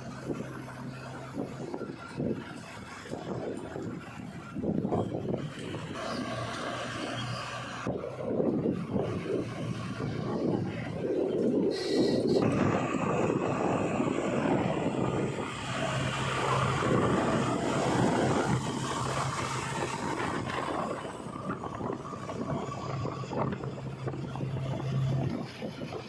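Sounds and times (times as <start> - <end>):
diesel engines rumbling: 0.0 - 26.0.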